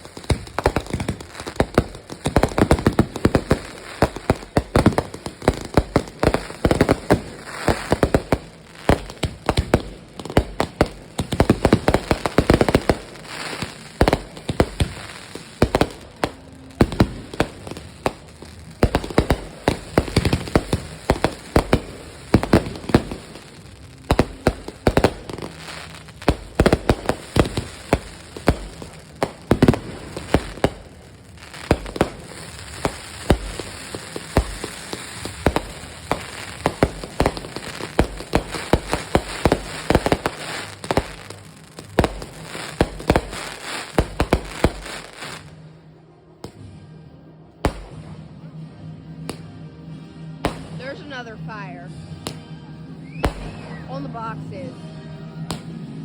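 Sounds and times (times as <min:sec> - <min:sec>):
fireworks cracking and popping: 0:00.0 - 0:45.6, 0:47.6 - 0:48.2, 0:49.2 - 0:49.5, 0:50.4 - 0:52.4, 0:53.1 - 0:54.7, 0:55.4 - 0:56.0.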